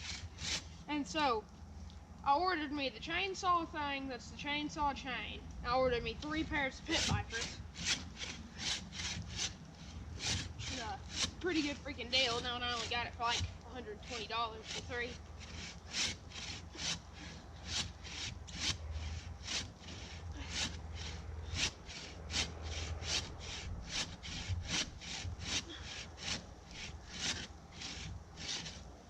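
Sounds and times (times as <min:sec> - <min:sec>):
bow saw cutting wood: 0:00.0 - 0:00.9, 0:06.3 - 0:29.0.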